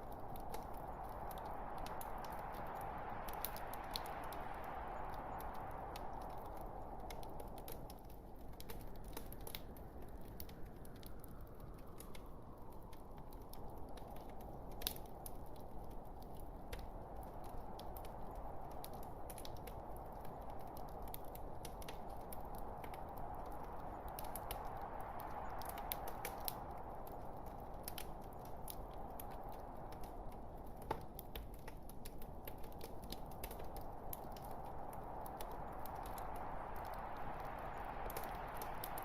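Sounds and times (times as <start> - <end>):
logs crackling in a fireplace: 0.0 - 39.0.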